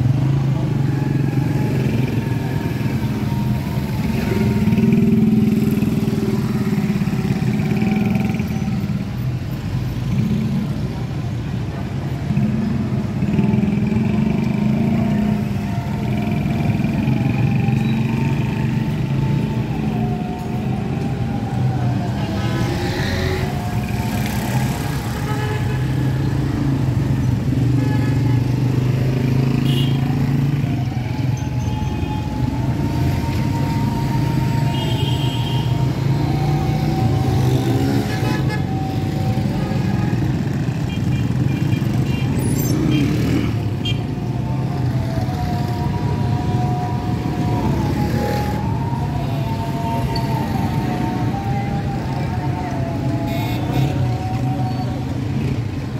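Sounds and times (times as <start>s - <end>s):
motorcycle engines passing: 0.0s - 11.2s, 11.8s - 55.9s
cars passing: 0.0s - 31.3s, 35.6s - 55.9s.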